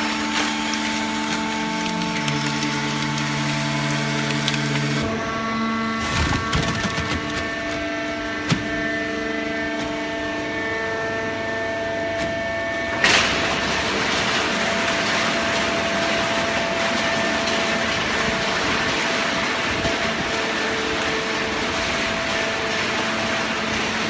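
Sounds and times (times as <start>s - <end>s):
baling press motor humming: 0.0s - 24.0s.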